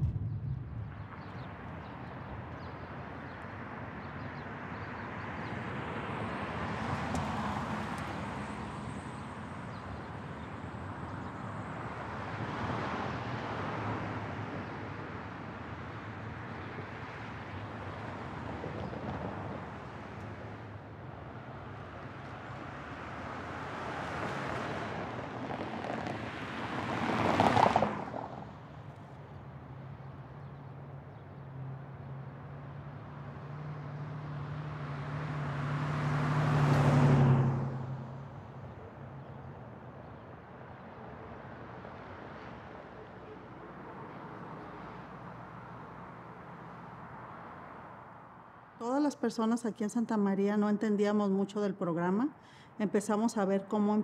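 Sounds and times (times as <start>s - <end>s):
cars passing with whoosh: 0.0s - 48.8s
low traffic hum: 0.0s - 54.0s.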